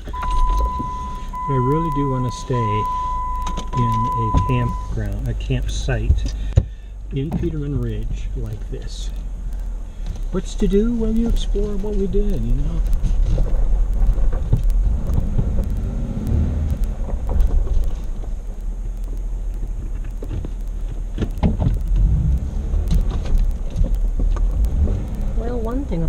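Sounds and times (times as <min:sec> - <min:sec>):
knocks and clicks over rough road: 0:00.0 - 0:26.0
vehicle engine and road rumble: 0:00.0 - 0:26.0.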